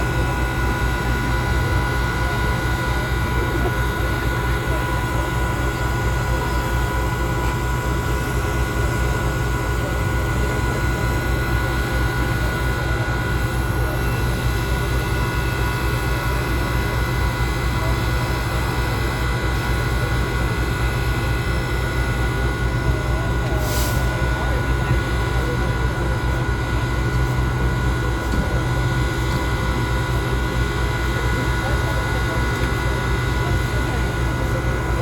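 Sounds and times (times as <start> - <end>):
engine running with whine: 0.0 - 35.0.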